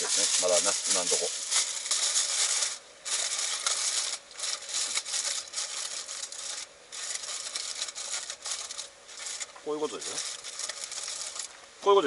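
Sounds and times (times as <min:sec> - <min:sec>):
aluminium foil crinkling: 0:00.0 - 0:11.6.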